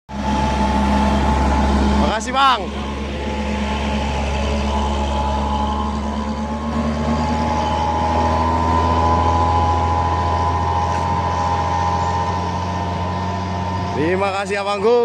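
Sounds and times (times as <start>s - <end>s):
high whine: 0.1s - 15.0s
truck diesel engine drone: 0.1s - 15.0s.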